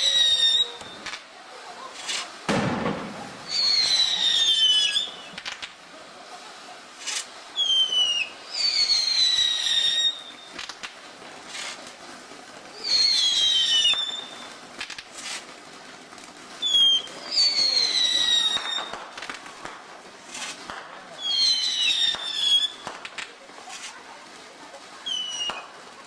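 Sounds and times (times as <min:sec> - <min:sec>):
whistling fireworks shrieking: 0:00.0 - 0:26.0.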